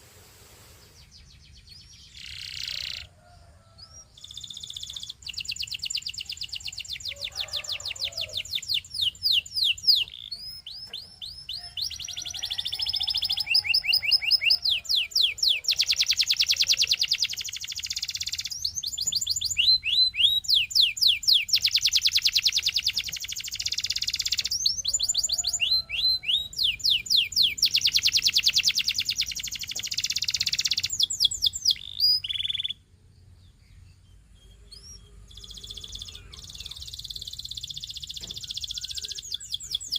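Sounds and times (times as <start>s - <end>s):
canary singing trills: 0.9s - 39.9s.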